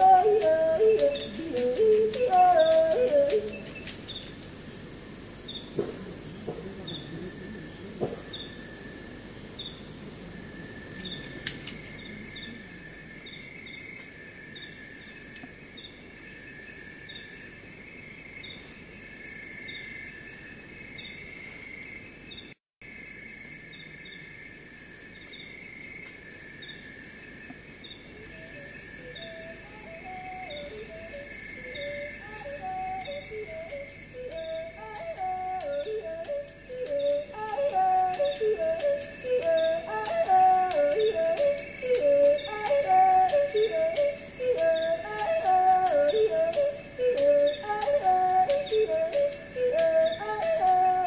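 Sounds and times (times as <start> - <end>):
insects trilling: 0.0 - 51.0
short insect chirp: 0.0 - 51.0.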